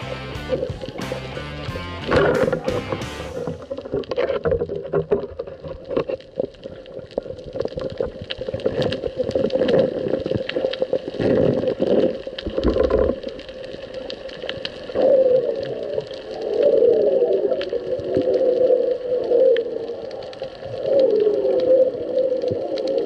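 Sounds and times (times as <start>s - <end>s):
underwater clicks crackling: 0.0s - 23.0s
gurgling water: 2.0s - 23.0s.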